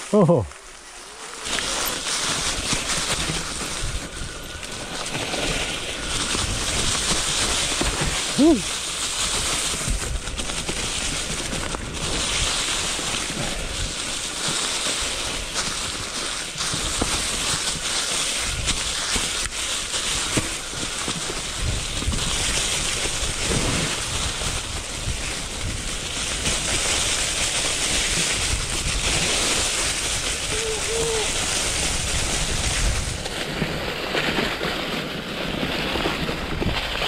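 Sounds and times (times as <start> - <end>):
bike tyres rolling over dry leaves: 0.0 - 37.0.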